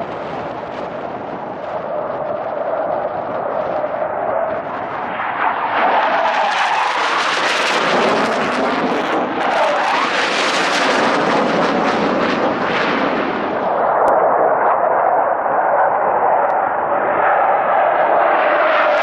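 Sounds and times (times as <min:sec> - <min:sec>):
low-flying jet roaring: 0:00.0 - 0:19.0.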